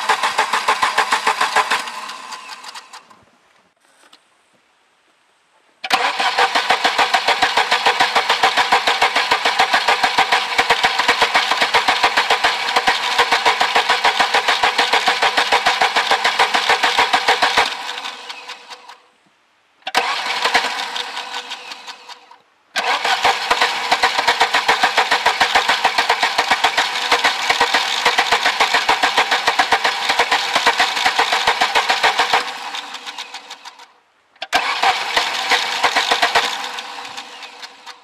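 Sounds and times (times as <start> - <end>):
car engine cranking without starting: 0.0 - 3.2, 5.8 - 19.0, 19.8 - 38.0.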